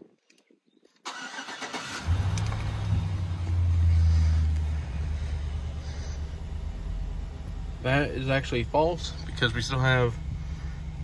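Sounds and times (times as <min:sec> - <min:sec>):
pickup truck engine cranking and idling: 0:01.1 - 0:11.0.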